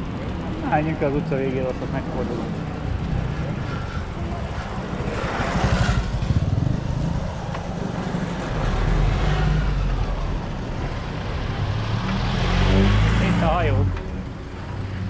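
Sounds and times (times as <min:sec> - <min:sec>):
road noise: 0:00.0 - 0:15.0
small vehicle engine rumbling: 0:00.0 - 0:15.0.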